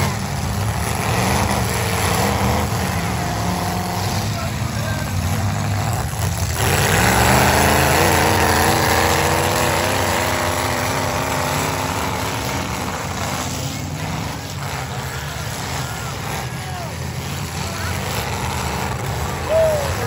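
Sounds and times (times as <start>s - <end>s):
car engine revving hard: 0.0s - 20.0s
car engines running: 0.0s - 20.0s.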